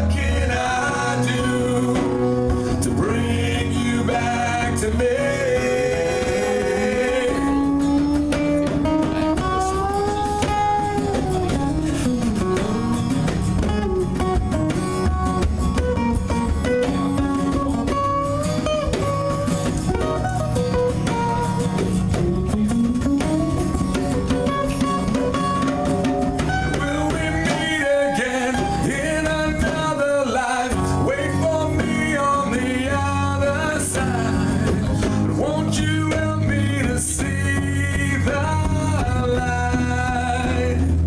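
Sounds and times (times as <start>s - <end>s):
guitar melody with pitch bends: 0.0s - 41.0s
rock band playing: 0.0s - 41.0s.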